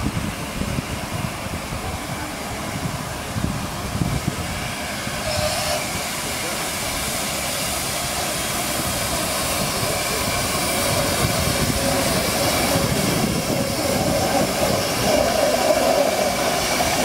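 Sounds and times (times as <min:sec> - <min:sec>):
steam locomotive rumble and hiss: 0:00.0 - 0:17.0.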